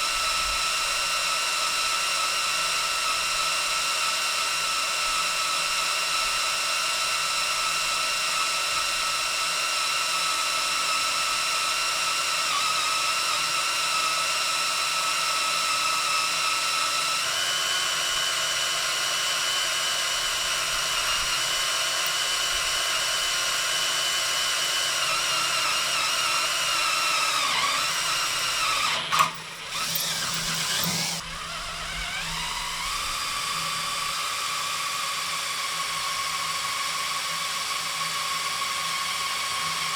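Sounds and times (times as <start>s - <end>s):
drill clicking: 0.0s - 39.9s
drill drilling into steel: 0.0s - 39.9s.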